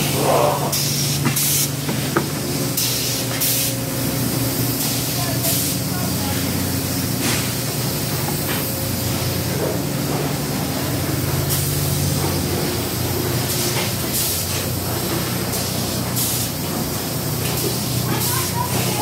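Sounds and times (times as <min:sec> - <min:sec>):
continuous hiss of air: 0:00.0 - 0:19.0
factory machinery hum: 0:00.0 - 0:19.0.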